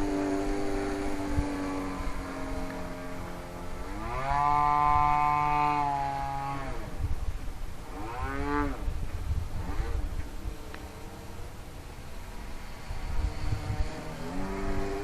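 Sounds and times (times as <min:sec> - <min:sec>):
model plane engine in flight: 0:00.0 - 0:15.0.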